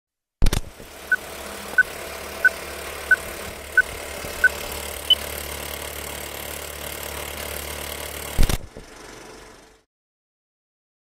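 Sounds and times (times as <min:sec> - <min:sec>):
projector running noise: 0:00.6 - 0:09.8.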